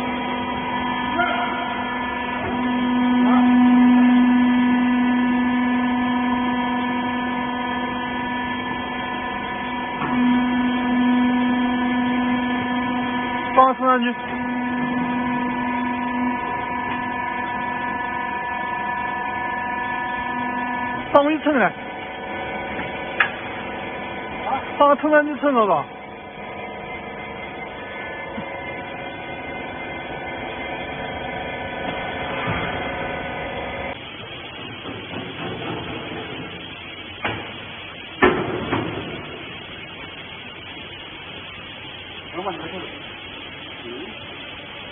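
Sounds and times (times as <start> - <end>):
machine motor electric hum: 0.0 - 44.9.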